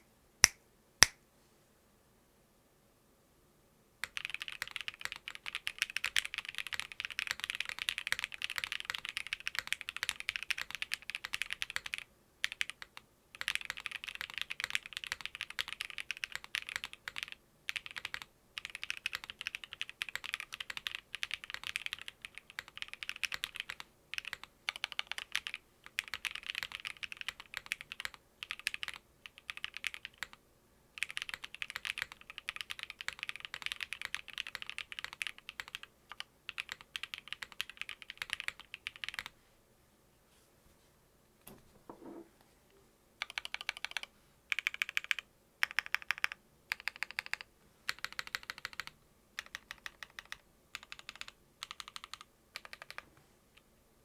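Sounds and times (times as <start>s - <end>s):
mechanical keyboard typing: 4.0s - 30.4s, 31.0s - 39.3s, 43.2s - 53.0s.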